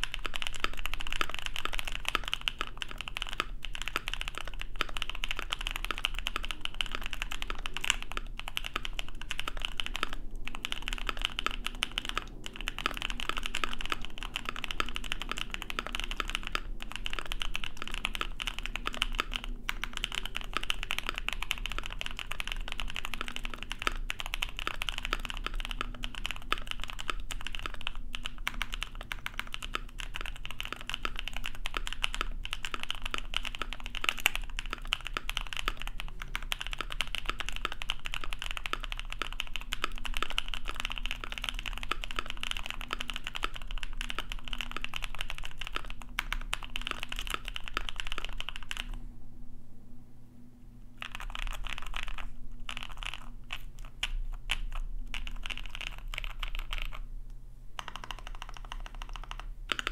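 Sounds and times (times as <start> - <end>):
mechanical keyboard typing: 0.0 - 49.0, 51.0 - 57.0, 57.8 - 59.9.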